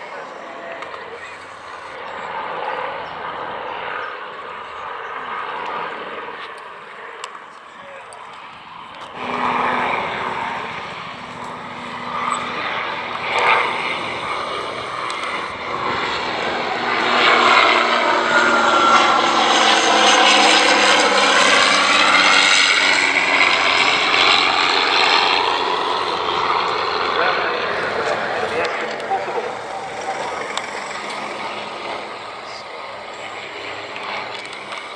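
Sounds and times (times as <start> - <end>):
aircraft engine flying past: 0.0 - 34.9.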